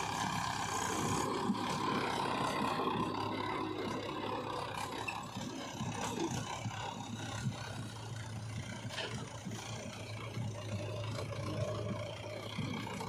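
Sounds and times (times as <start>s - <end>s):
backhoe loader engine running: 0.0s - 13.0s
tractor diesel engine: 0.0s - 13.0s.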